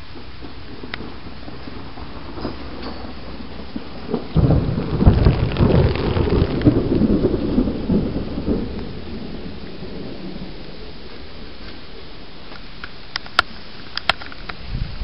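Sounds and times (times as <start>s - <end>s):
thunder cracking and rumbling: 0.0s - 13.5s
steady rain: 0.0s - 15.0s.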